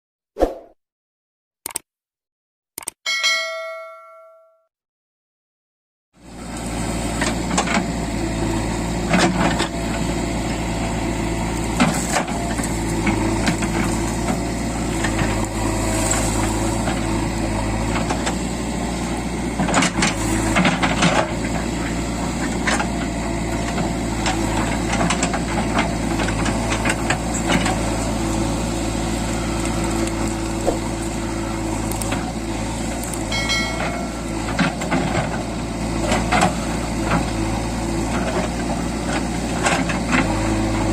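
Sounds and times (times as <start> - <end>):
diesel engine running: 6.2 - 40.9.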